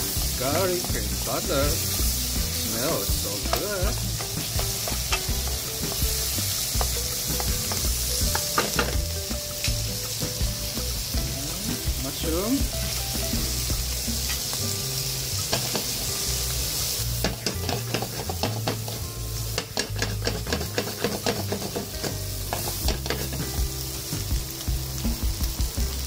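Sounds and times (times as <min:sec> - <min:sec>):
food sizzling in skillet: 0:00.0 - 0:26.0.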